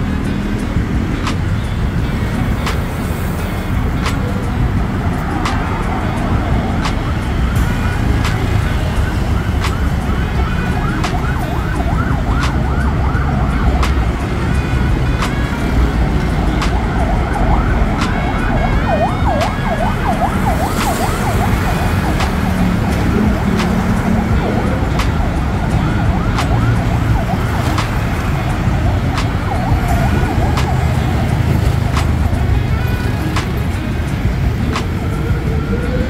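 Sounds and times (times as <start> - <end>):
road traffic rumbling: 0.0 - 36.0
siren yelping: 3.8 - 36.0.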